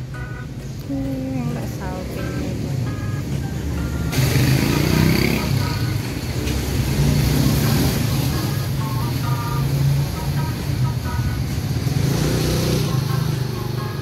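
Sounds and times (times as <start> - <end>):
motor scooters passing: 1.5 - 14.0.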